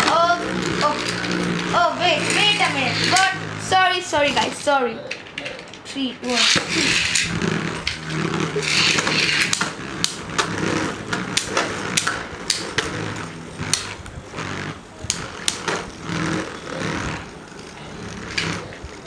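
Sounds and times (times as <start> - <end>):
spinning tops clacking together: 0.0 - 19.0
spinning tops whirring and scraping: 0.0 - 19.0.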